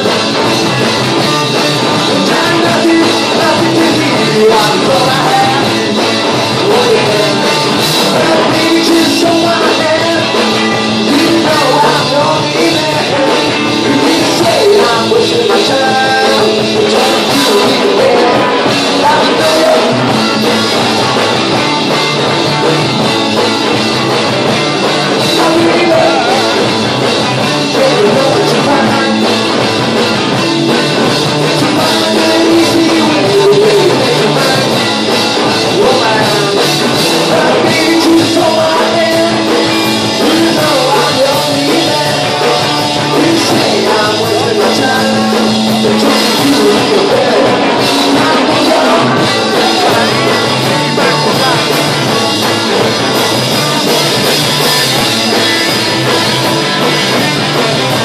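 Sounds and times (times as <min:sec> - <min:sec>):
drum kit: 0:00.0 - 0:58.0
electric guitars: 0:00.0 - 0:58.0
person singing: 0:01.6 - 0:21.4, 0:25.1 - 0:29.7, 0:30.6 - 0:58.0.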